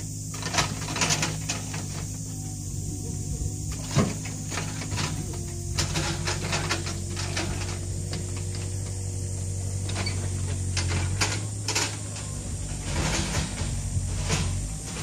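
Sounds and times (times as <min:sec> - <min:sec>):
machine engine running: 0:00.0 - 0:15.0
sharp clanks and knocks: 0:00.3 - 0:02.3, 0:03.6 - 0:15.0.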